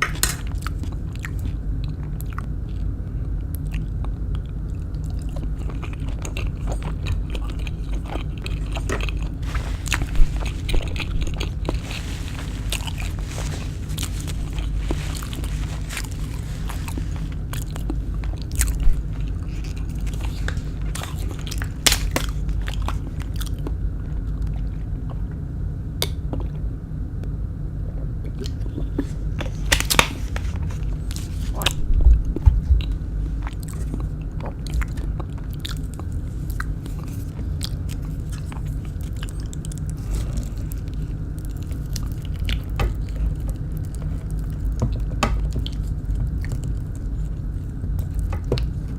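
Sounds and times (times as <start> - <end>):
crunching and chewing: 0.0 - 25.4, 27.8 - 48.9
steady low hum: 0.0 - 48.9.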